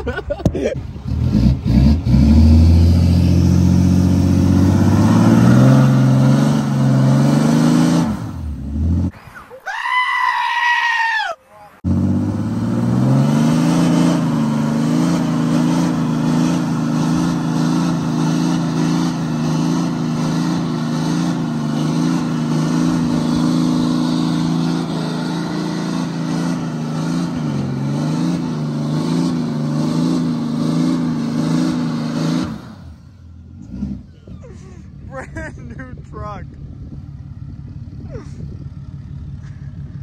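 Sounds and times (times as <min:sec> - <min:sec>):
truck engine revving high: 0:00.8 - 0:09.2, 0:11.7 - 0:35.8.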